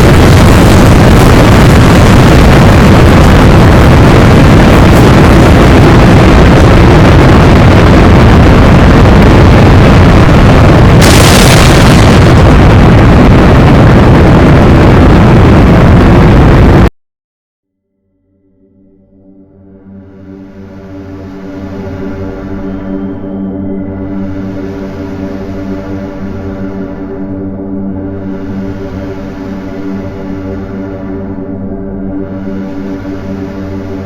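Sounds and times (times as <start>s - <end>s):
wind roaring over microphone: 0.0s - 16.9s, 21.2s - 34.0s.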